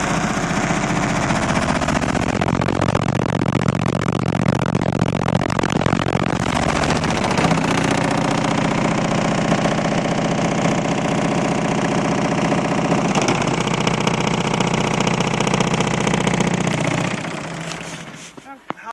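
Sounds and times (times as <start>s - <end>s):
subwoofers playing low bass: 0.0s - 17.6s.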